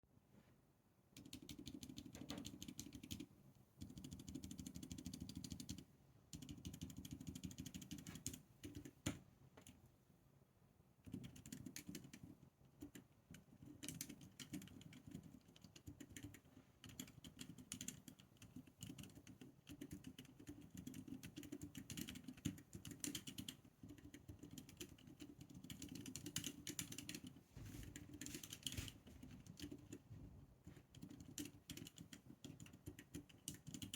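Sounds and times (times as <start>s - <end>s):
quiet keyboard typing: 1.1s - 9.9s, 11.0s - 33.9s.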